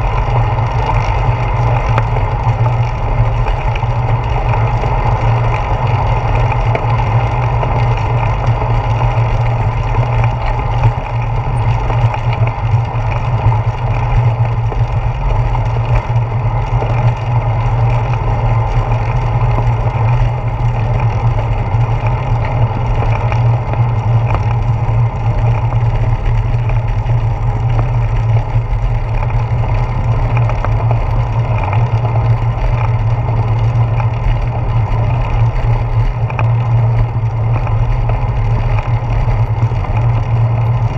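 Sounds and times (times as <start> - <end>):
tyres rolling over asphalt: 0.0 - 40.9.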